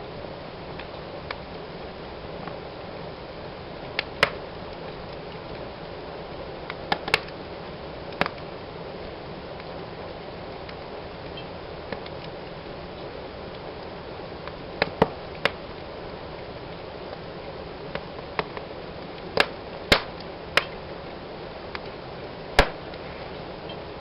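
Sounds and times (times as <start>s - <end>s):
wood fire hissing: 0.0s - 24.0s
fire crackling pops: 0.7s - 24.0s.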